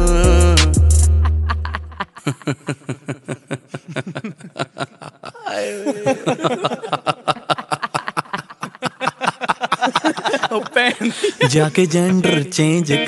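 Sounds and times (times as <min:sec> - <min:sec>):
person chuckling: 0:01.0 - 0:12.5.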